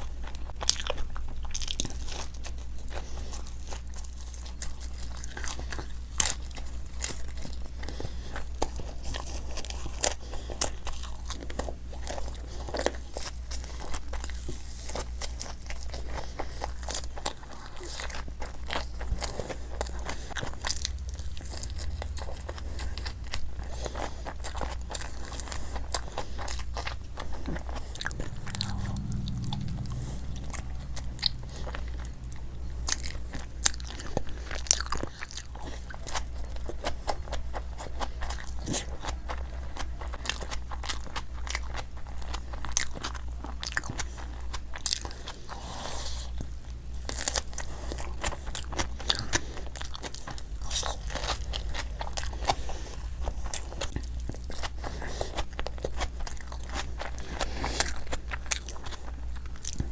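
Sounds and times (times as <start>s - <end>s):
crunchy snack eating: 0.0s - 59.9s
steady low hum: 0.0s - 59.9s.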